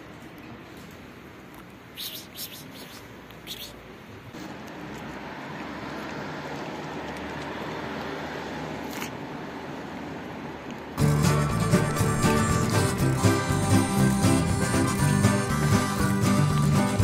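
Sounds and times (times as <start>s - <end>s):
road vehicle noise: 0.0s - 17.0s.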